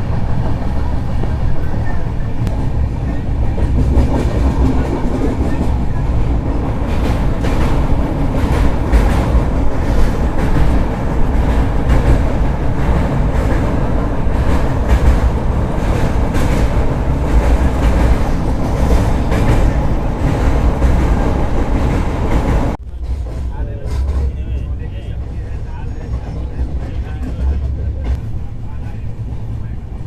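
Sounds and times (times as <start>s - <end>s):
wheels clacking over rail joints: 0.0s - 29.7s
train coaches rumbling: 0.0s - 30.0s.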